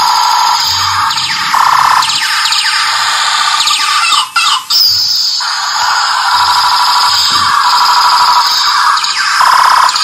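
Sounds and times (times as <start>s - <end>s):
toy playing electronic tune: 0.0s - 10.0s.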